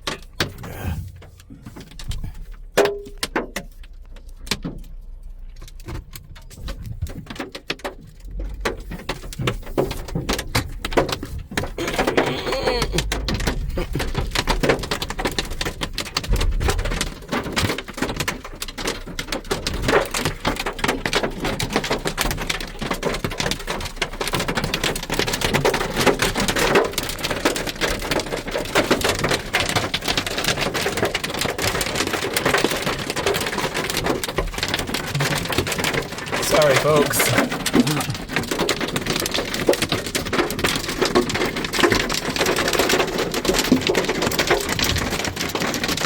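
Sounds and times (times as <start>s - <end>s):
hail hammering a car roof: 7.0s - 46.0s.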